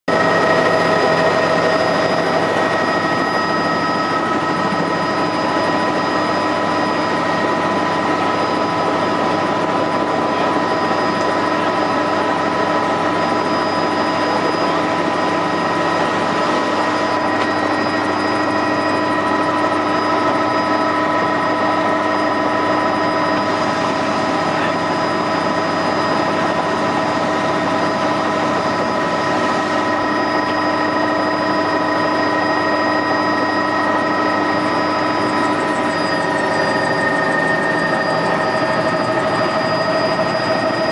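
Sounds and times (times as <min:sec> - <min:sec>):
helicopter engine and rotor: 0:00.0 - 0:40.9
steady whine: 0:00.1 - 0:40.9.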